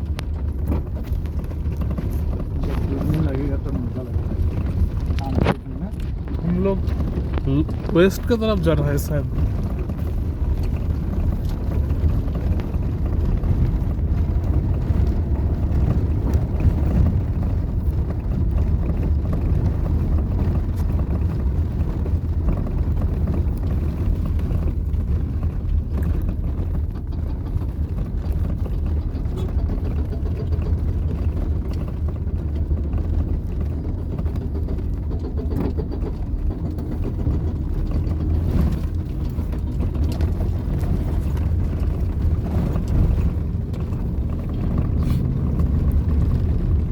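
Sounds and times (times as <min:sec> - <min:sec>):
moving vehicle rumble: 0:00.0 - 0:46.9.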